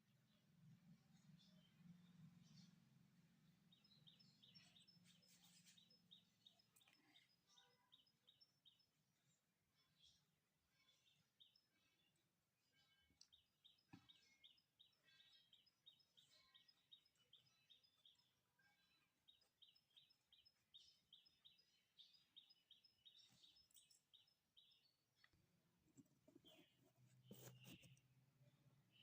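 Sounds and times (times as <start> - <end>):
faint bird chirping: 0.0 - 29.0.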